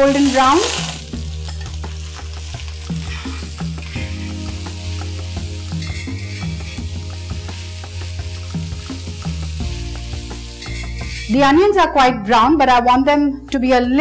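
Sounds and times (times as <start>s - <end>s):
onions sizzling in oil: 0.0s - 11.9s.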